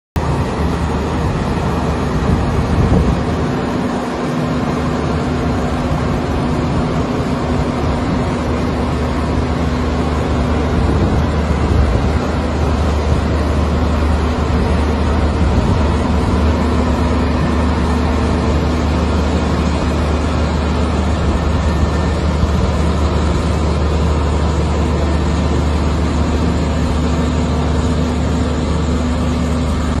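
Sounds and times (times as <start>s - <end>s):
heavy machine engine droning: 0.2s - 30.0s.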